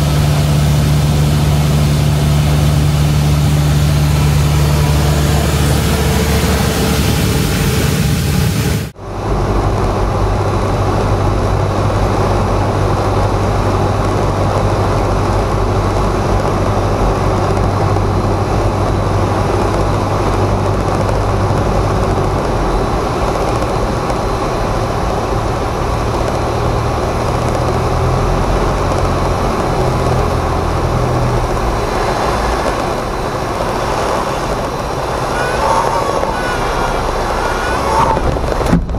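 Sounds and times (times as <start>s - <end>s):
airplane engine drone: 0.0s - 38.9s.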